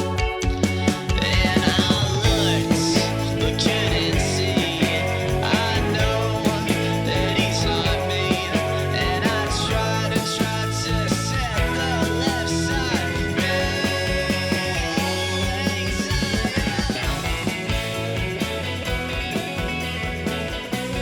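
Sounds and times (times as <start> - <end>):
rock music with drums and guitar: 0.0 - 21.0.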